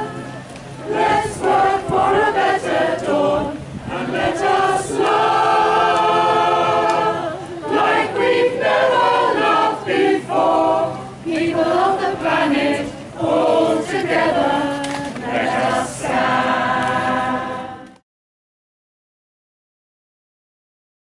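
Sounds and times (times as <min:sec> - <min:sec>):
choir singing unaccompanied: 0:00.0 - 0:18.0.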